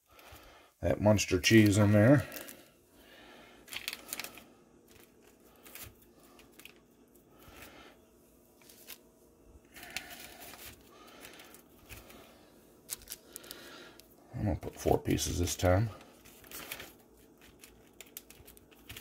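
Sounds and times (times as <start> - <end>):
cheese slices rustling: 0.1 - 19.0.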